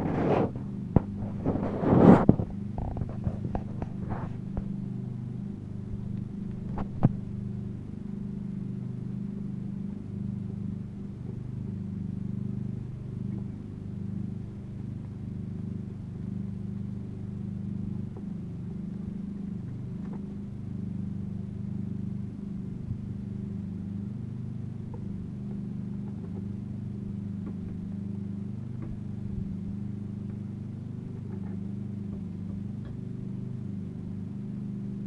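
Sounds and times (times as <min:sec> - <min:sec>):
motor humming: 0:00.0 - 0:35.0.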